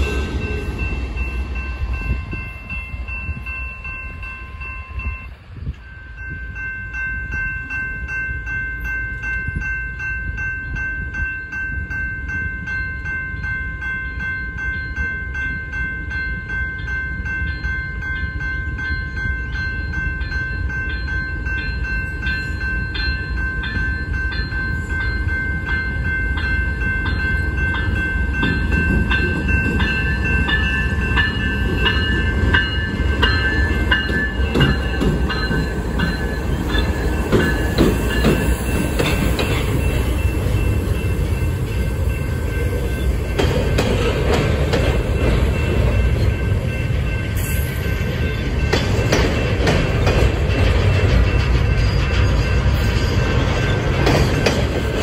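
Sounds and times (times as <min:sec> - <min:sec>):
crossing bell ringing: 0:00.0 - 0:55.0
diesel locomotives passing: 0:00.0 - 0:55.0.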